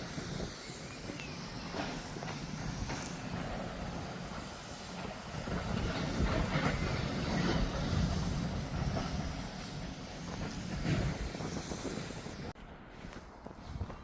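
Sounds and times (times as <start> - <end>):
heavy mechanical rumble: 0.0 - 12.6.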